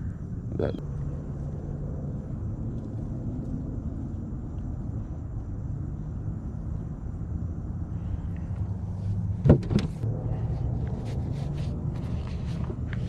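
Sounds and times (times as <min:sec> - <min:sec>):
low motor rumble and hum: 0:00.0 - 0:13.0.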